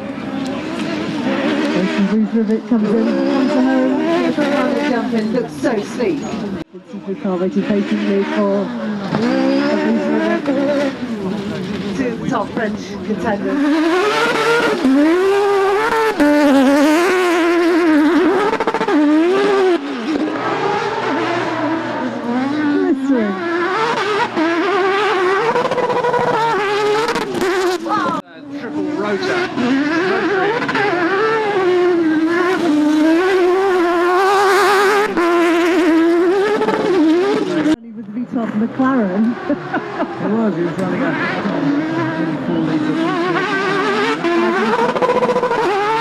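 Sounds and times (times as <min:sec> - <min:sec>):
racing car engine revving: 0:00.0 - 0:46.0.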